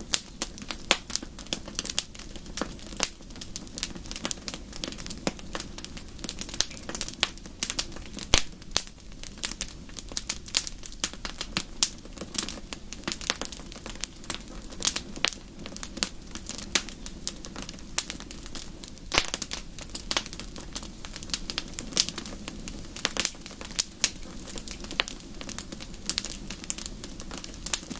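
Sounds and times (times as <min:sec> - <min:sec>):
low fire hiss: 0:00.0 - 0:27.9
wood fire popping and snapping: 0:00.0 - 0:27.9.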